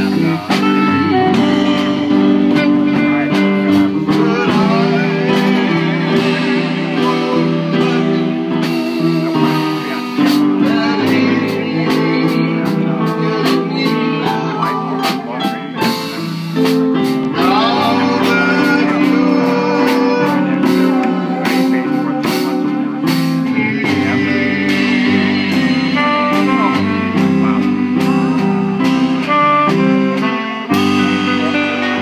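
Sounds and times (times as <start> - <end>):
drum kit steady beat: 0.0 - 32.0
saxophone long notes: 0.0 - 32.0.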